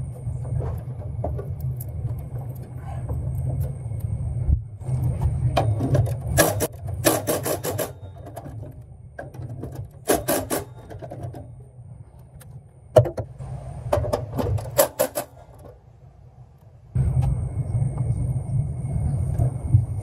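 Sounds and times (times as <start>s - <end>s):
steady low rumble: 0.0s - 10.1s, 10.7s - 14.8s, 15.4s - 20.0s.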